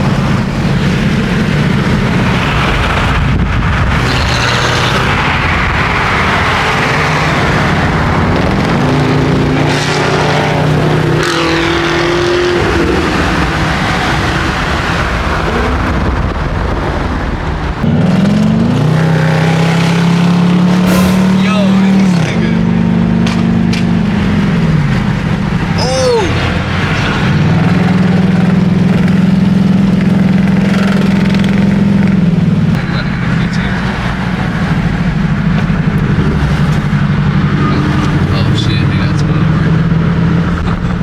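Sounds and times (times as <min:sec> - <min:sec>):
steady rushing noise: 0:00.0 - 0:10.8, 0:12.5 - 0:41.0
car engines revving: 0:00.0 - 0:41.0.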